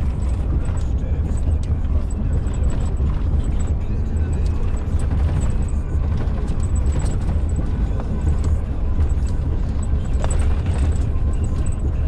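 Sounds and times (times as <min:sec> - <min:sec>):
engine and road rumble: 0:00.0 - 0:12.0
truck knocks and rattles: 0:00.0 - 0:12.0.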